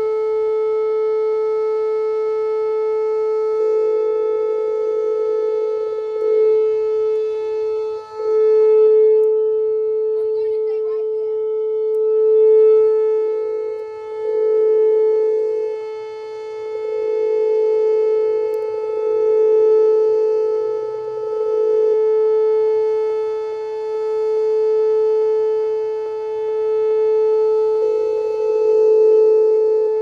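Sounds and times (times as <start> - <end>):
outdoor warning siren steady tone: 0.0 - 30.0.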